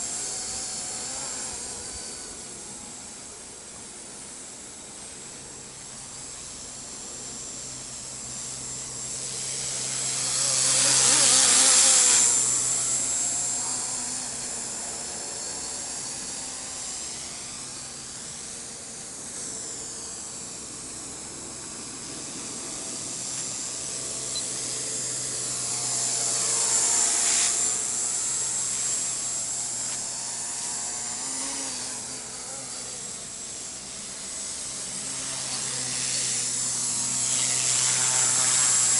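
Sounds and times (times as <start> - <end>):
helicopter rotor noise: 0.0 - 38.9
rc helicopter motor whine: 0.0 - 38.9.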